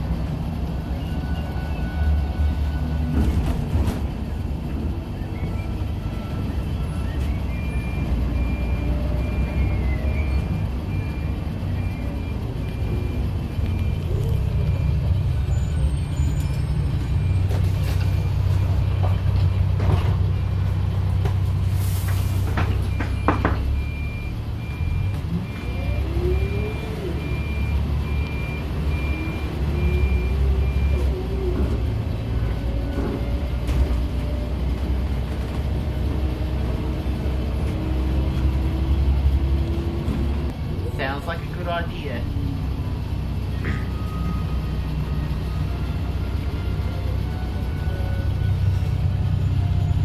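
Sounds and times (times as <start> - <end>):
bus engine drone: 0.0 - 50.0.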